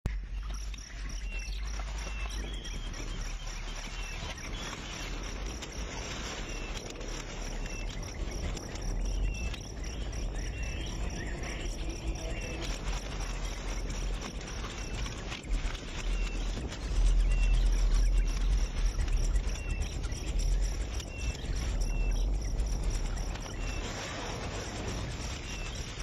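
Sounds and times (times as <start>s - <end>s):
insects chirping in a trill: 0.1s - 26.0s
low background rumble: 0.1s - 26.0s.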